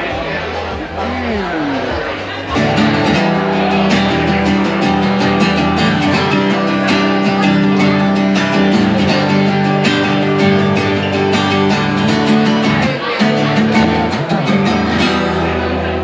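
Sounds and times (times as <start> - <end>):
acoustic guitar strummed and picked: 0.0 - 16.0.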